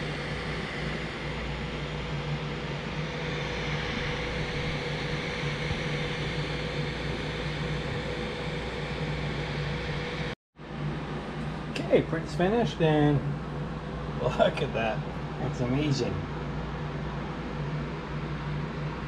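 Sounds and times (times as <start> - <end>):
low even hum: 0.0 - 19.0
printer fans whirring: 0.0 - 19.0.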